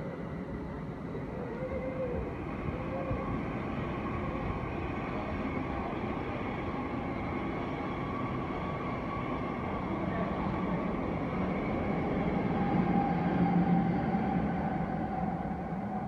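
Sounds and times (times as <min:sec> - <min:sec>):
electric train rumble: 0:00.0 - 0:16.0
electric train whine: 0:00.0 - 0:16.0.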